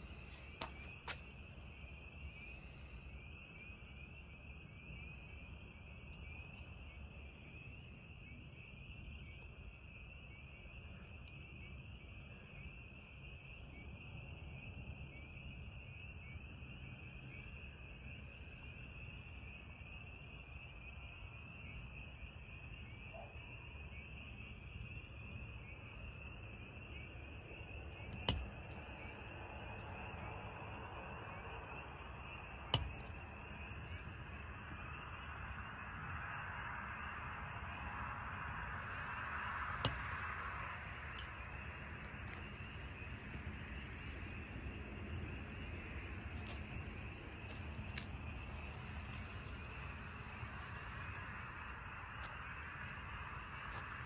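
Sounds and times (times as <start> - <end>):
night insects chorus: 0.0 - 54.0.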